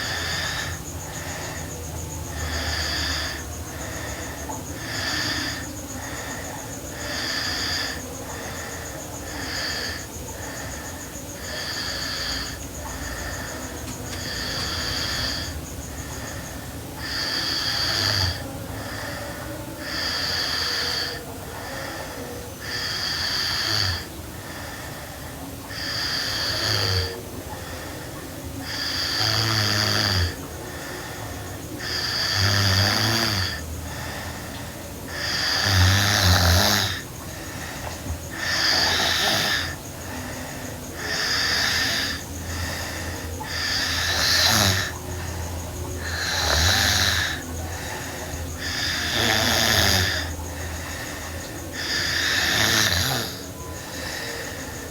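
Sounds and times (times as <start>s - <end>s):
quiet breathing: 0.0s - 54.9s
girl snoring: 2.4s - 24.1s, 25.7s - 31.2s, 31.8s - 54.9s.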